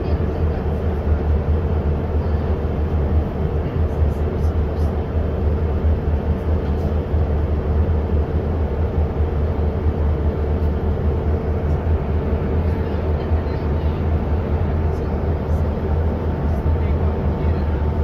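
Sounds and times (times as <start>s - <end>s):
boat engine drone: 0.0s - 18.0s.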